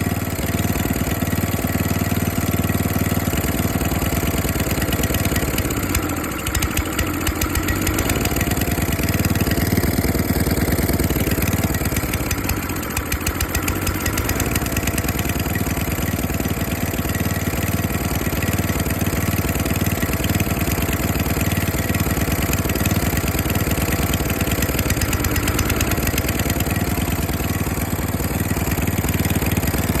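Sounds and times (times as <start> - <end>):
small engine idling fast: 0.0 - 30.0.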